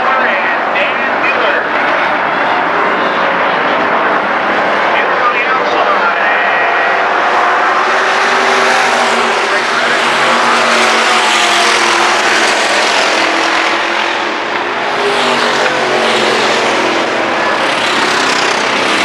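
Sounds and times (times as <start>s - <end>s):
stock car engines racing: 0.0s - 19.0s.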